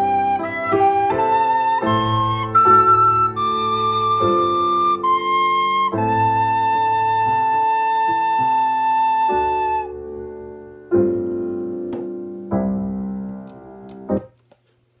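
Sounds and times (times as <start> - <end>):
piano chords: 0.0 - 14.4.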